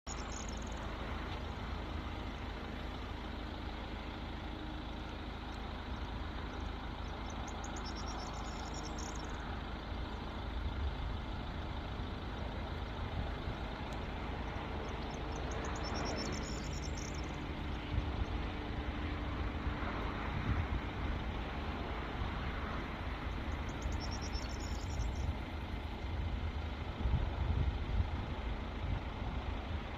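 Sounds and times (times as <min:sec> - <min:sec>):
vehicle engine and road rumble: 0:00.0 - 0:29.9
faint steady hum: 0:00.1 - 0:29.9.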